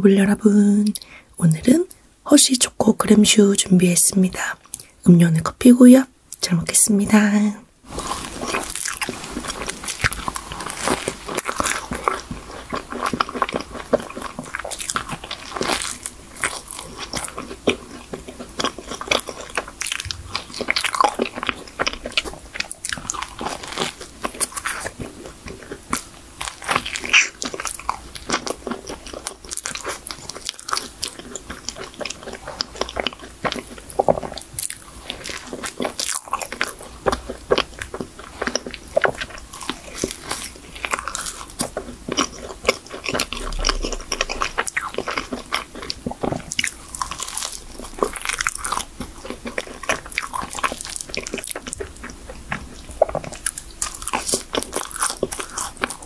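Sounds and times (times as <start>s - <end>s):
chewing pastry: 2.8s - 56.0s.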